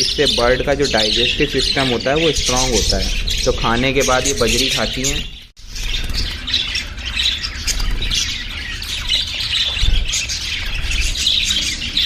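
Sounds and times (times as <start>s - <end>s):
budgerigars chattering and squawking: 0.0s - 12.0s.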